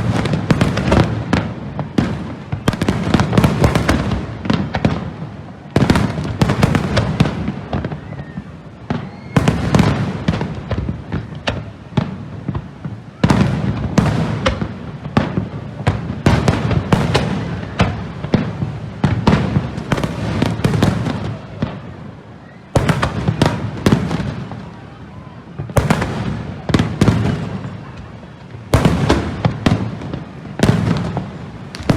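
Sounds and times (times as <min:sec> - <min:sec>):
firework booms: 0:00.0 - 0:31.9
firework bursts and crackling: 0:00.0 - 0:31.9.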